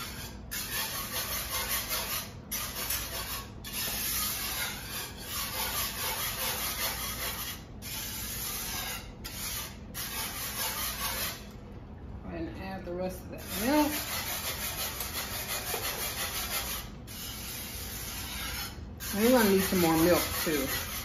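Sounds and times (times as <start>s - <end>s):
whisk scraping in skillet: 0.0s - 11.5s, 13.4s - 21.0s.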